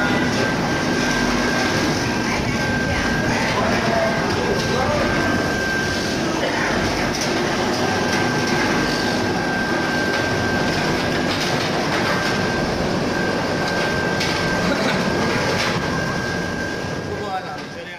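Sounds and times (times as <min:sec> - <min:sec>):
washing machine conveyor running: 0:00.0 - 0:17.9.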